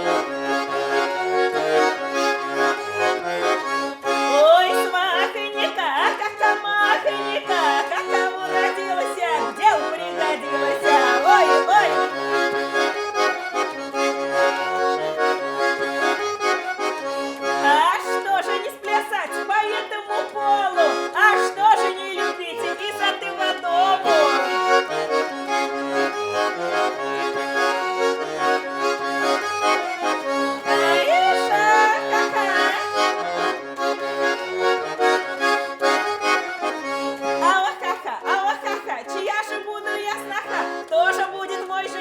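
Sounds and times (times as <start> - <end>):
button accordion playing: 0.0 - 42.0.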